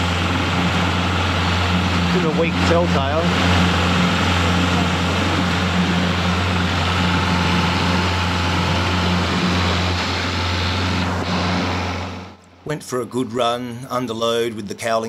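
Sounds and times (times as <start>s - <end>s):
outboard motor running: 0.0s - 12.7s.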